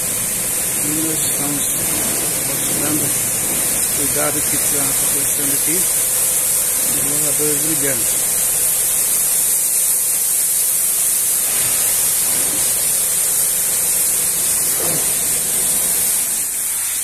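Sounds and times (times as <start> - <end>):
high-pressure water jet hissing: 0.0 - 17.0.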